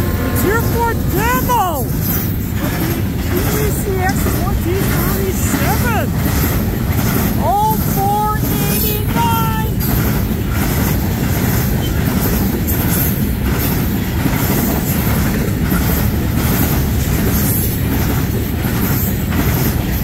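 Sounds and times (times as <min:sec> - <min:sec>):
freight train rolling past: 0:00.0 - 0:20.0
steel wheels clattering: 0:00.0 - 0:20.0.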